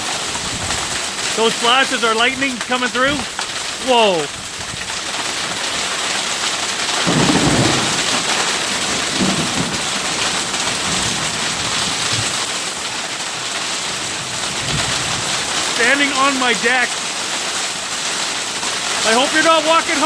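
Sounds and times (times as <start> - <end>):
thunder rumbling: 0.0 - 17.2
heavy rain pouring: 0.0 - 20.0.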